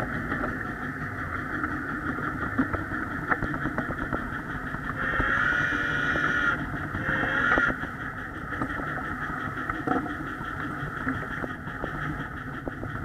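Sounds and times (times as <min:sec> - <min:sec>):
miniature train mechanical whine: 0:00.0 - 0:13.0.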